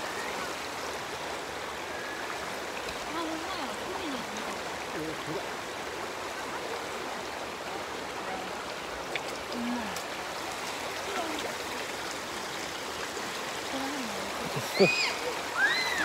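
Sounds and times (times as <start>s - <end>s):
stream babbling over pebbles: 0.0s - 16.0s.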